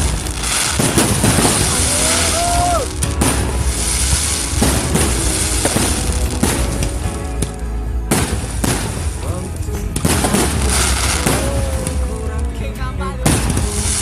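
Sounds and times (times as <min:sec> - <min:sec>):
background music: 0:00.0 - 0:14.0
fireworks bangs and crackles: 0:00.0 - 0:14.0.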